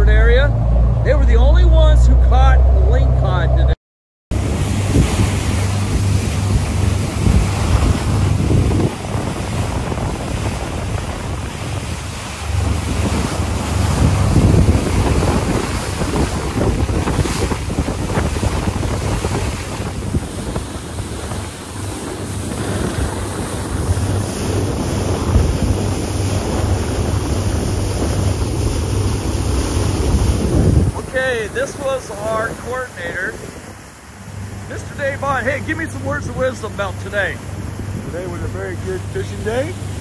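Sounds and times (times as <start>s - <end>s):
low boat hum: 0.0s - 40.0s
water rushing in boat wake: 0.0s - 40.0s
wind buffeting microphone: 0.0s - 40.0s.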